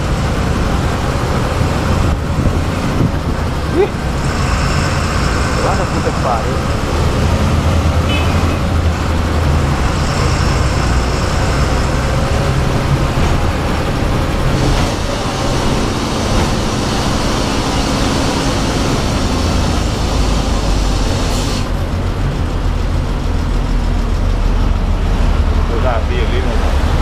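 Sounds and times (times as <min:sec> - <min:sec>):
bus engine droning: 0:00.0 - 0:27.0
road noise: 0:00.0 - 0:27.0.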